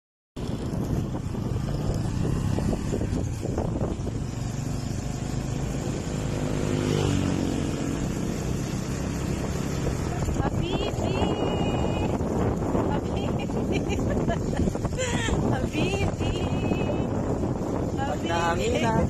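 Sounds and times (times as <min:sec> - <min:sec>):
motorcycle engine running: 0:00.4 - 0:19.0.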